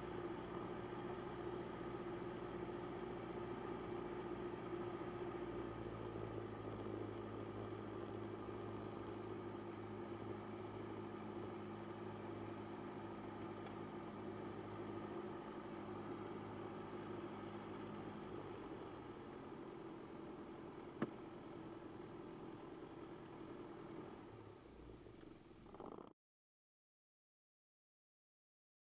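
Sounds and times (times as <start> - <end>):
light aircraft engine humming: 0.0 - 25.8.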